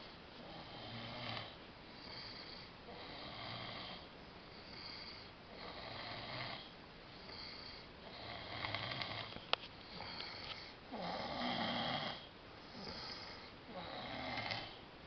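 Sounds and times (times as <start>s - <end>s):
man snoring: 0.4s - 4.0s, 4.7s - 6.7s, 7.3s - 9.3s, 9.9s - 14.8s.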